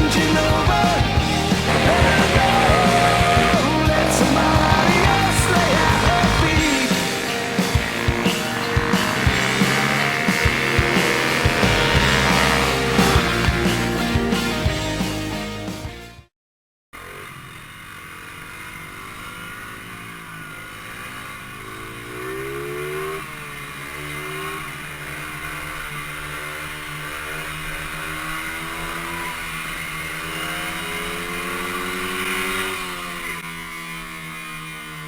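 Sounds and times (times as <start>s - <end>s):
pit bike engine revving: 0.0s - 15.8s, 17.0s - 35.0s.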